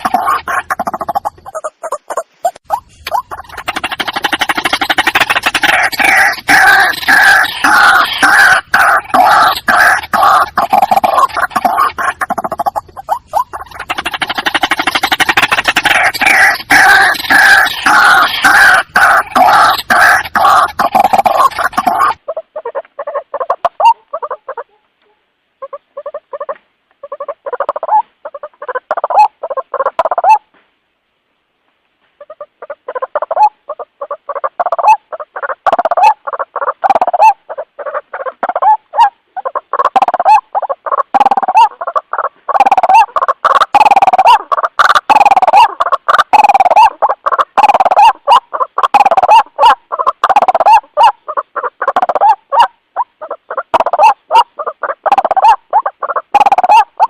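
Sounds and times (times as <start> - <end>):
waterhen croaking calls: 0.0 - 30.5, 32.2 - 57.0.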